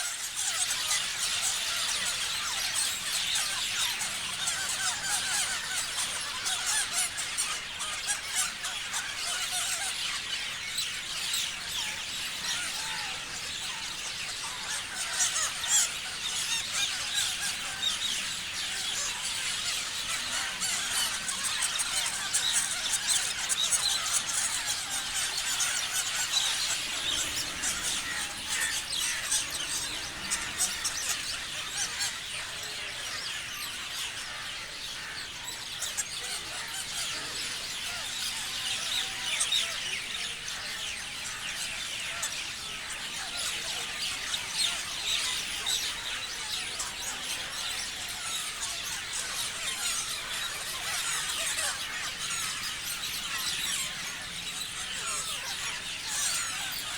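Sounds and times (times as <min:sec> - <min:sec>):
parrots chirping and screeching: 0:00.0 - 0:11.0, 0:11.8 - 0:39.8, 0:42.8 - 0:56.9.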